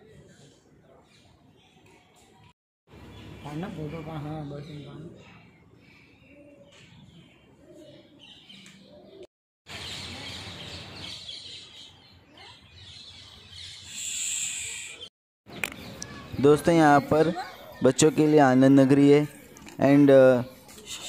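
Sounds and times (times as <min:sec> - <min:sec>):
birds calling: 0:02.9 - 0:21.0.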